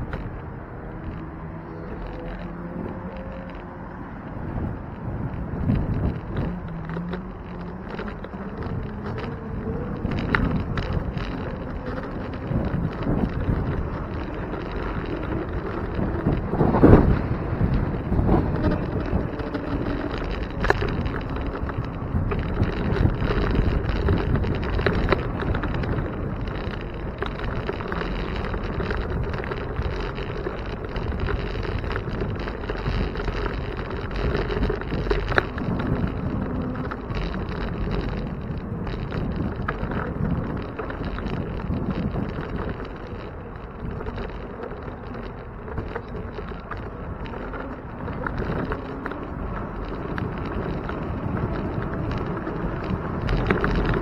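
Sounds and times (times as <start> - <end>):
wind buffeting microphone: 0.0 - 54.0
bike knocks and rattles: 4.3 - 54.0.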